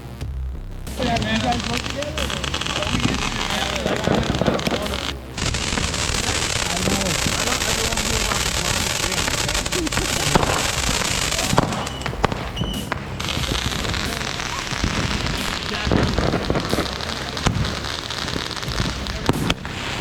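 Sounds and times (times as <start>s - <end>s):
fireworks crackling: 0.8s - 20.0s
firework pops and bangs: 0.9s - 20.0s.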